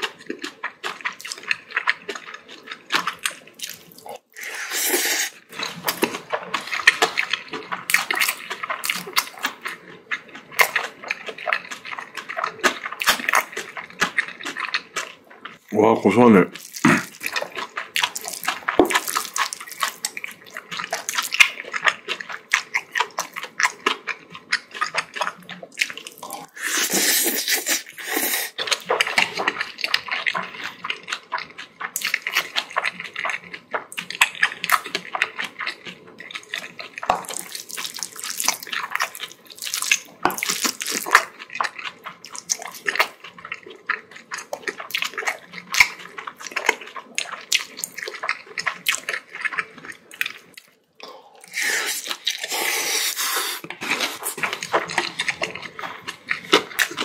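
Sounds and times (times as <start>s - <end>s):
wet chewing and mouth smacks: 0.0s - 15.7s, 16.5s - 57.0s.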